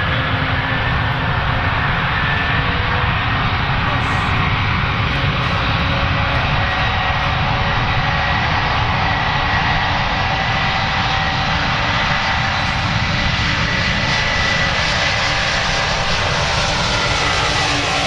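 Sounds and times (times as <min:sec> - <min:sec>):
aircraft engines roaring: 0:00.0 - 0:18.0
high-pitched engine whine: 0:00.0 - 0:18.0.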